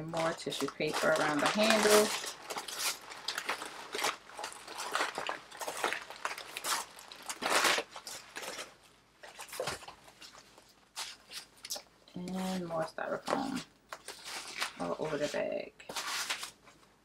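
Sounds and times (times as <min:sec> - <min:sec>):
tissue paper rustling: 0:00.0 - 0:11.8, 0:12.4 - 0:16.9.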